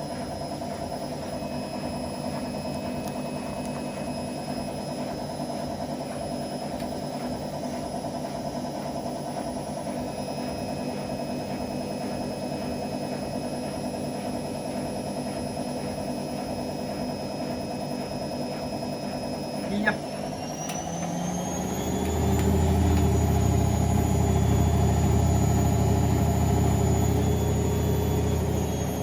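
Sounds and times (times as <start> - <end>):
washing machine motor hum: 0.0 - 29.0.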